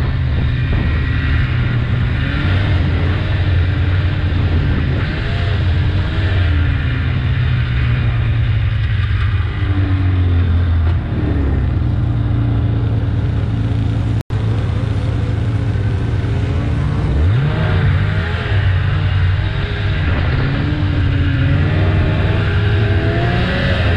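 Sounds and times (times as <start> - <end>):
snowmobile engine running: 0.0 - 23.9
steady rushing noise: 0.0 - 23.9.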